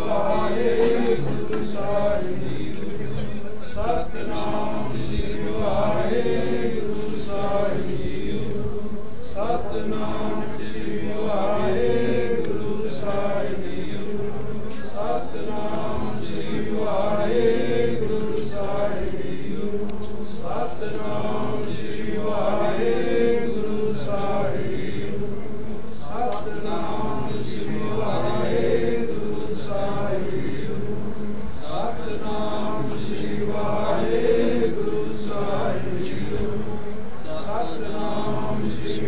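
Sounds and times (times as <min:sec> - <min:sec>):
voices chanting a sung phrase: 0:00.0 - 0:39.0.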